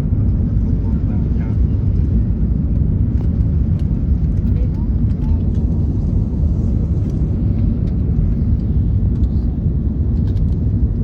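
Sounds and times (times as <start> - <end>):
jet airliner takeoff rumble: 0.0 - 11.0.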